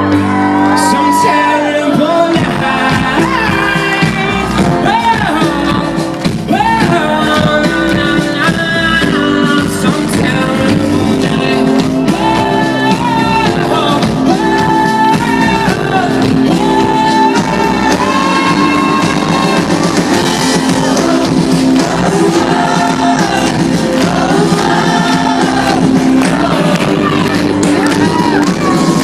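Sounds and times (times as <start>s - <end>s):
pop-rock band playing: 0.0s - 29.0s
wordless group vocals: 0.8s - 29.0s.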